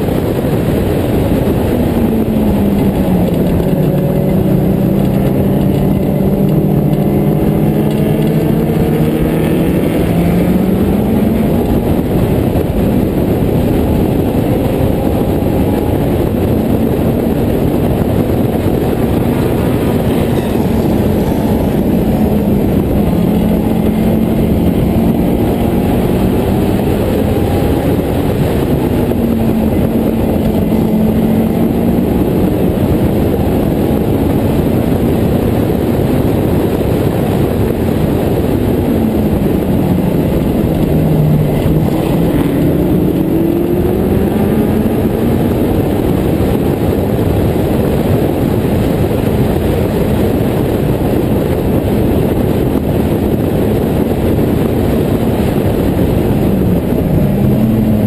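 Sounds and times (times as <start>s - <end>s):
racing car engine: 0.0s - 58.0s
wind rush on microphone: 0.0s - 58.0s.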